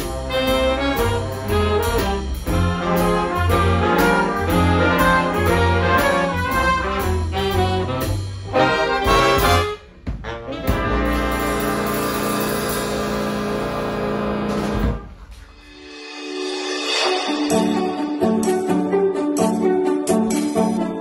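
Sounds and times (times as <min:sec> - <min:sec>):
big band playing jazz: 0:00.0 - 0:21.0.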